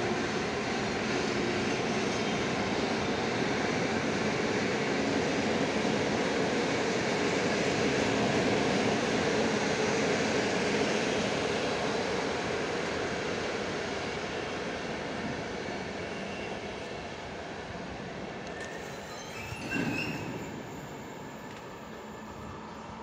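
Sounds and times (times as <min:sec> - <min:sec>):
electric train rolling on track: 0:00.0 - 0:23.0.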